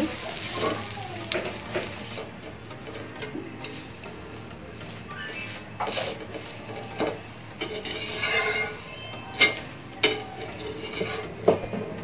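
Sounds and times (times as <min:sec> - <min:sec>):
steel spatula scraping a pan: 0:00.0 - 0:11.7.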